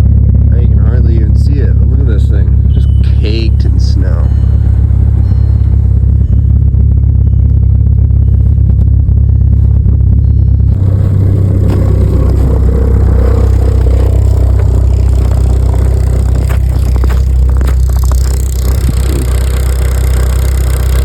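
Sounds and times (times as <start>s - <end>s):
bright rough engine noise: 0.0s - 21.0s
diesel engine idling: 0.0s - 21.0s.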